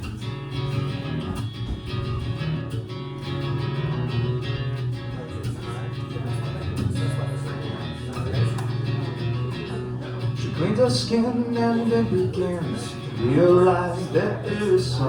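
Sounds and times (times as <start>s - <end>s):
guitar plucked and strummed: 0.0s - 15.0s
low bass line: 0.0s - 15.0s.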